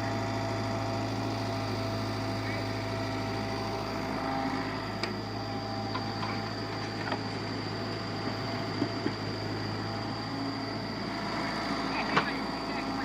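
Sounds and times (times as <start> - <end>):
machine motor humming and whining: 0.0 - 13.0.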